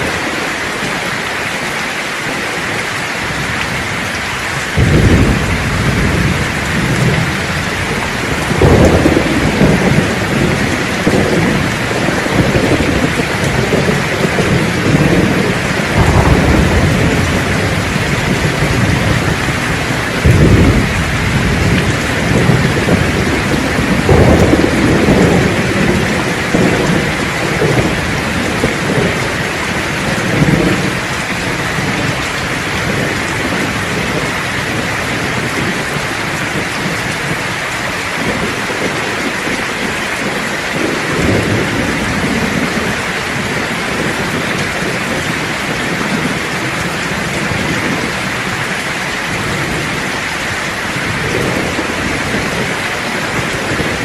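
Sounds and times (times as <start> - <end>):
heavy rain hissing: 0.0 - 54.0
thunder rumbling and cracking: 0.0 - 54.0.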